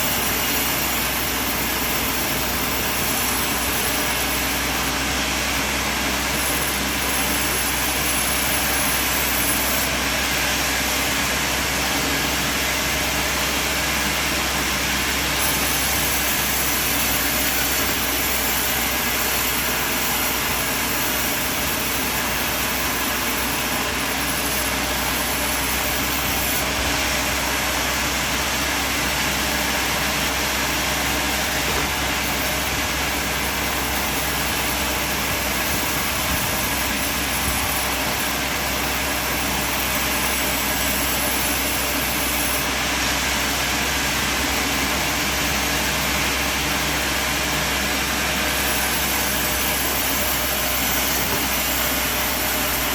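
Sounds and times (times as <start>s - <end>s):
sawmill machine running: 0.0s - 52.9s.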